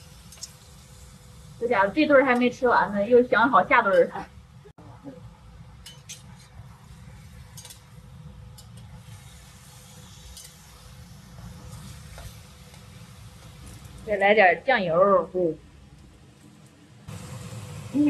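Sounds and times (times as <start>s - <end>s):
light sizzle: 0.0s - 18.0s
steady low hum: 0.0s - 18.0s.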